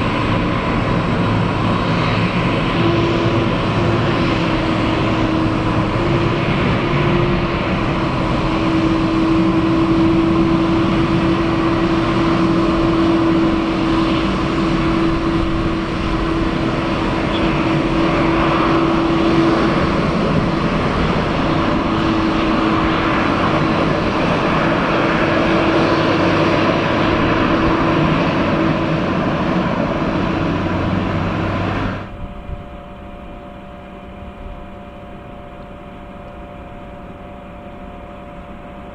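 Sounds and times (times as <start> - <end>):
jet engines running with whine: 0.0 - 38.9.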